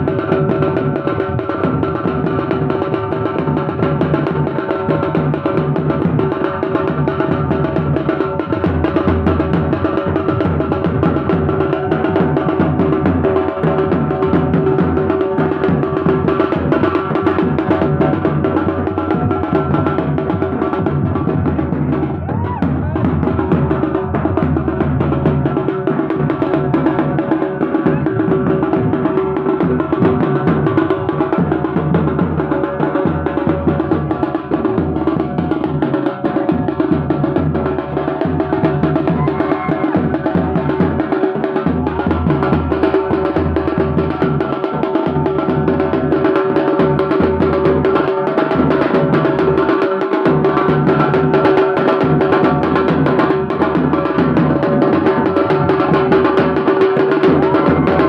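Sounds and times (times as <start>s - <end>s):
fast drum band drumming: 0.0s - 58.0s.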